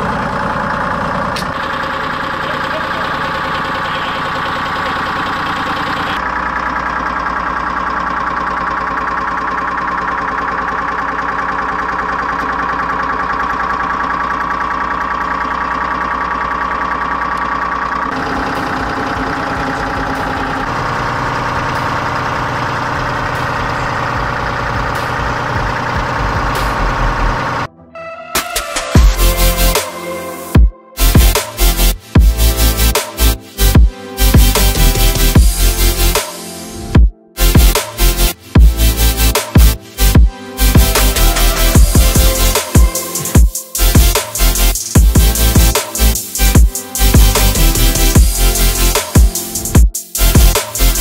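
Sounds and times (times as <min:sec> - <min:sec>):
tractor engine idling: 0:00.0 - 0:27.7, 0:29.0 - 0:51.0.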